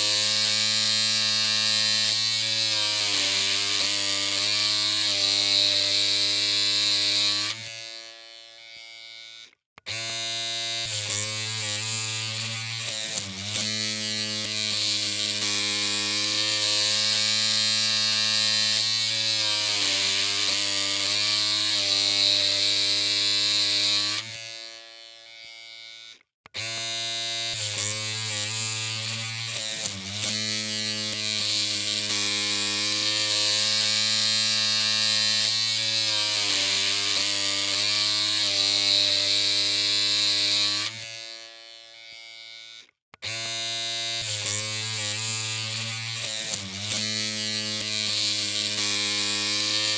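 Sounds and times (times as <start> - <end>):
electric hair clippers buzzing: 0.0 - 49.9.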